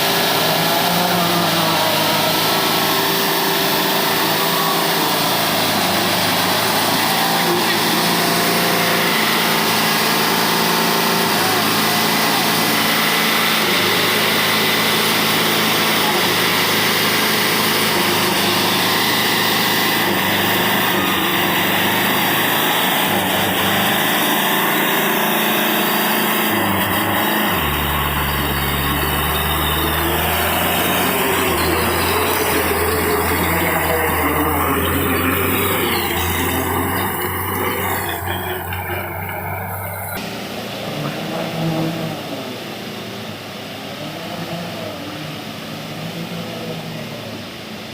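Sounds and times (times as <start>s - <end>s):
deeper engine hum: 0.0s - 47.7s
small engine running: 0.0s - 47.9s.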